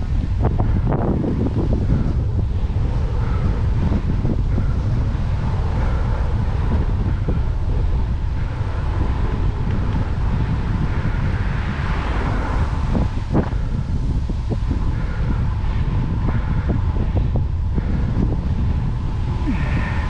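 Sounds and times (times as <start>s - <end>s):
vehicle passing: 0.0s - 20.0s
wind buffeting microphone: 0.0s - 20.0s.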